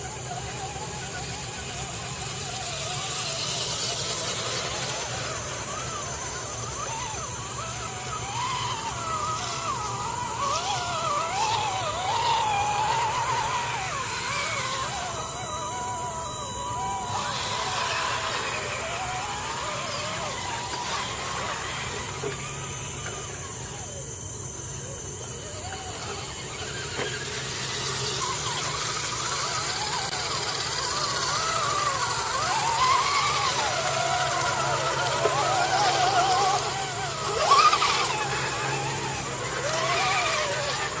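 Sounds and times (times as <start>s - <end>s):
toy truck motor whining: 0.0s - 41.0s.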